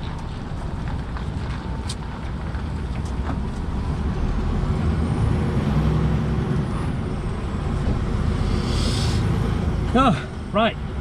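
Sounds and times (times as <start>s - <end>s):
lorry diesel engine running: 0.0s - 11.0s.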